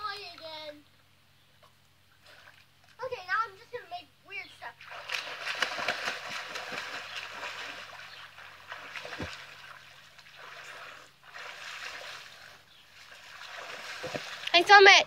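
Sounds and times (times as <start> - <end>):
pool water splashing: 1.7 - 15.0.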